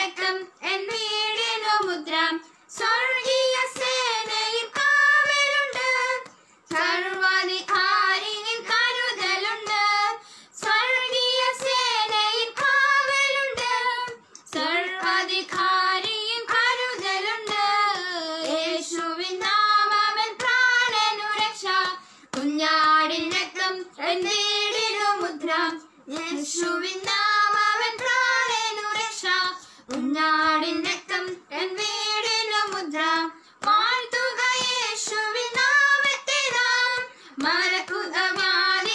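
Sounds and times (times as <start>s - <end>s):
girls singing unaccompanied: 0.0s - 38.9s.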